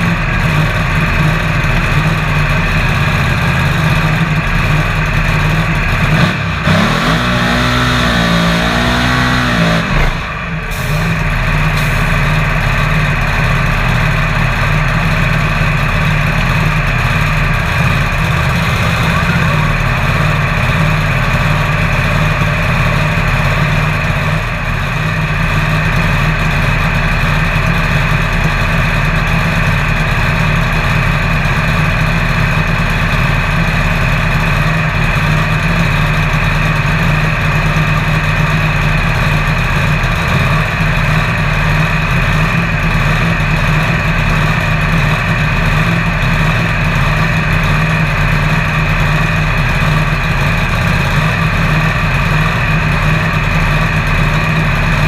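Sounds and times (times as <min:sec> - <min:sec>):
drag car engine idling loudly: 0:00.0 - 0:55.0.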